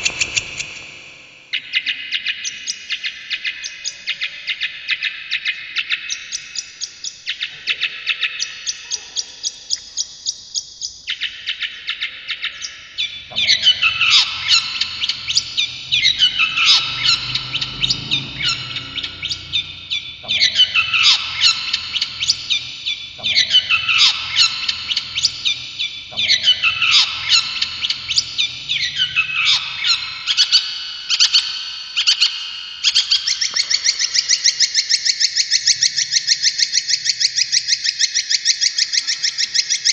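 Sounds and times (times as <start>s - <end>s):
bird singing chattering trills: 0.0s - 39.9s.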